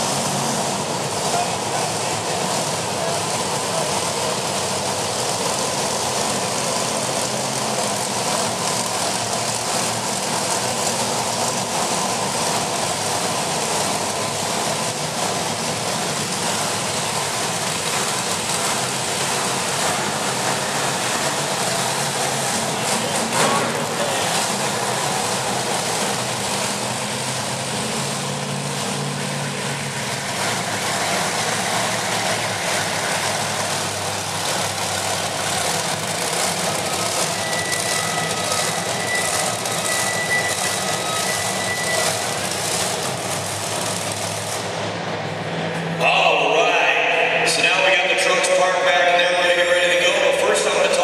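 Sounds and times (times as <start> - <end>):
truck engine running at low revs: 0.0 - 51.0.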